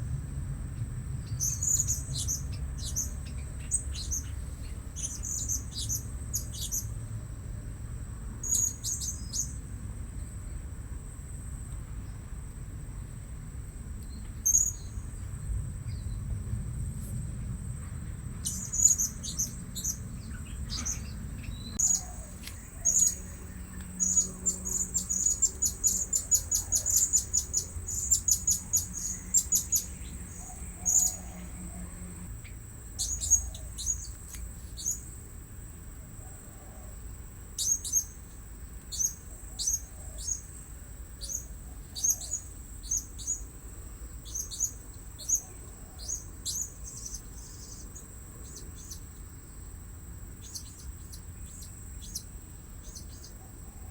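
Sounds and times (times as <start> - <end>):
high insect whine: 0.0 - 53.9.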